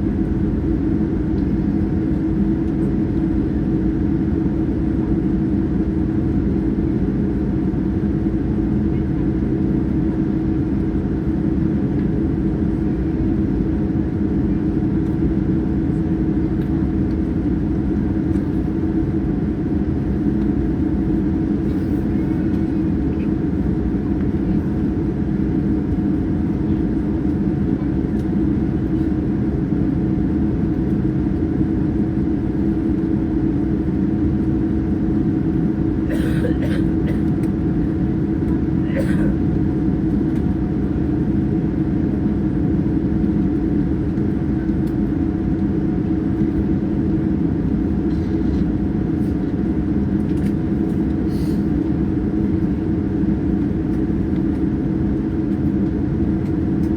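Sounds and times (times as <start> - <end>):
airliner cabin roar: 0.0 - 56.9.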